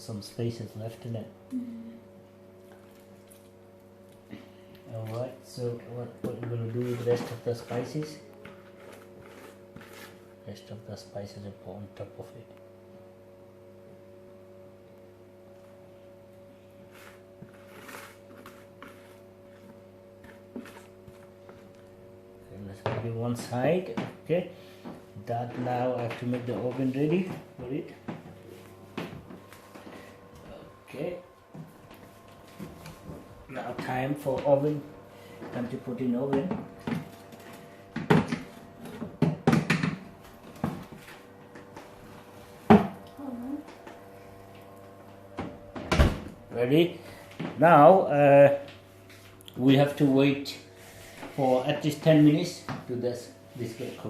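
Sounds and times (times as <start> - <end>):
steady electrical hum: 0.0 - 54.0.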